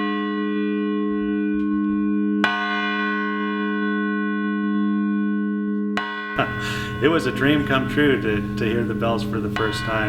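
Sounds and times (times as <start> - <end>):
clock-tower bell ringing: 0.0 - 10.0.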